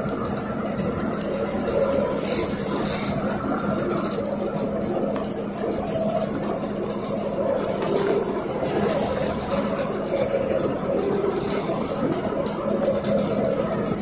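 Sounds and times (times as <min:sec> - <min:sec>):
trolleybus running and road noise: 0:00.0 - 0:14.0.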